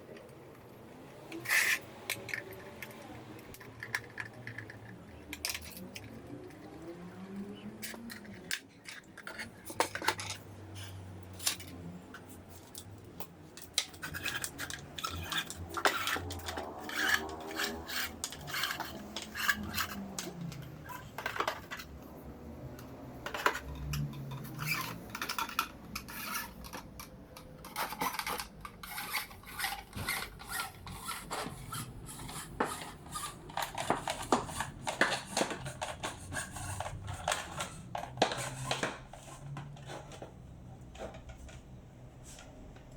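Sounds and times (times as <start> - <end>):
tools and small parts clicking: 1.3 - 6.8, 7.8 - 41.8.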